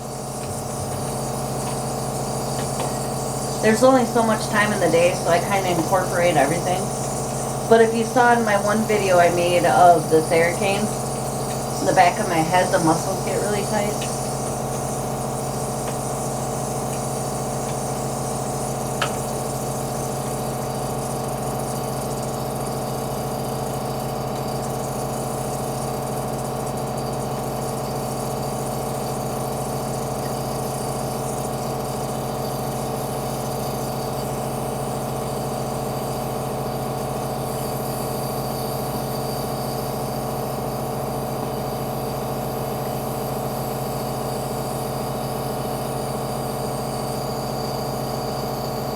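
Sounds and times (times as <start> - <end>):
air compressor humming and hissing: 0.0 - 48.9.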